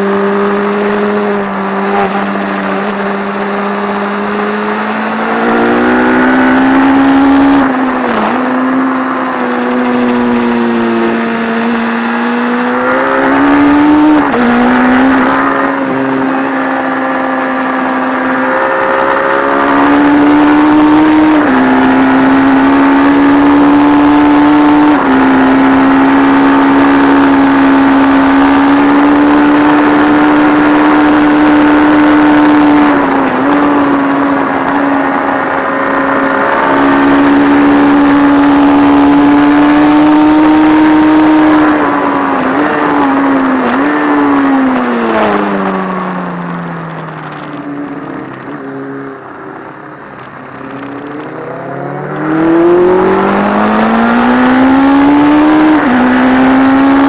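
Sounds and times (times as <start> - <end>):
race engine at high revs: 0.0 - 57.0.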